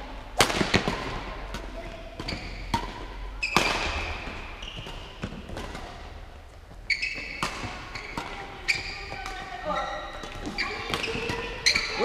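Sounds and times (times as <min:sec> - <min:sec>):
badminton rackets striking shuttlecock: 0:00.4 - 0:06.3, 0:07.1 - 0:12.0
shoes squeaking on hall floor: 0:02.0 - 0:12.0.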